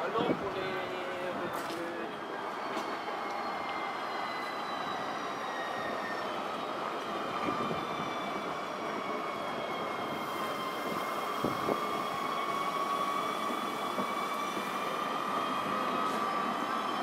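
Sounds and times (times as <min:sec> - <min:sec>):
tram passing with high whine: 0:00.0 - 0:17.0.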